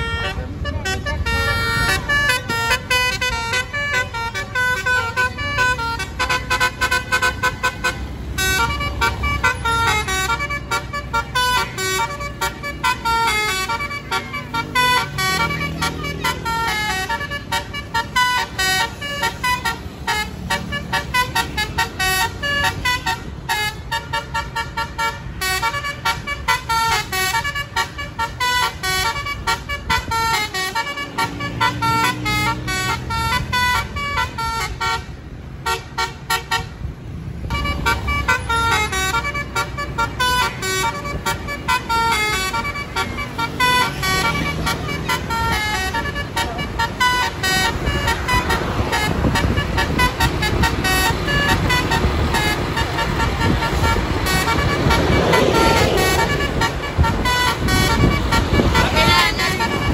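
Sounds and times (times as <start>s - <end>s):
musical air horn melody: 0.0s - 59.9s.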